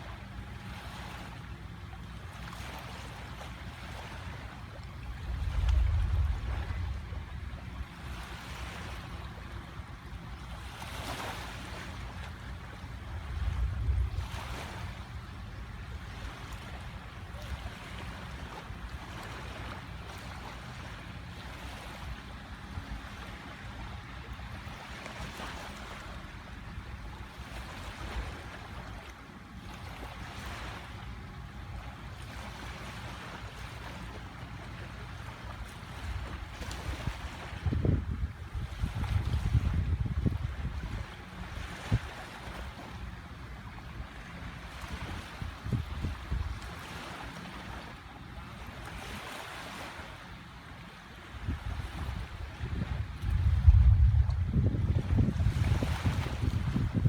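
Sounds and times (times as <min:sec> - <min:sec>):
sea waves breaking on beach: 0:00.0 - 0:57.0
wind rumble on microphone: 0:02.3 - 0:50.2, 0:50.8 - 0:57.0.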